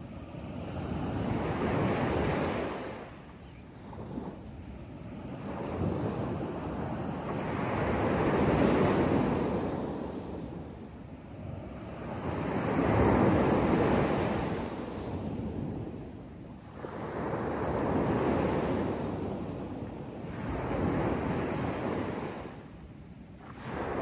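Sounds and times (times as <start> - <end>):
waves washing up a beach: 0.0 - 24.0.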